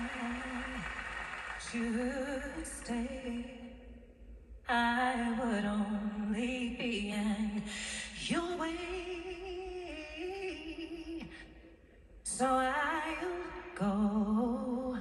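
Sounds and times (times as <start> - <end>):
person singing slow song: 0.0 - 11.6, 12.2 - 15.0.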